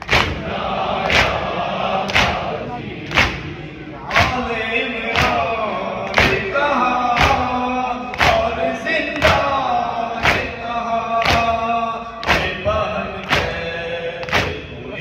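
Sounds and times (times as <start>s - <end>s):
men striking chests in unison: 0.0s - 14.8s
men chanting: 0.0s - 15.0s.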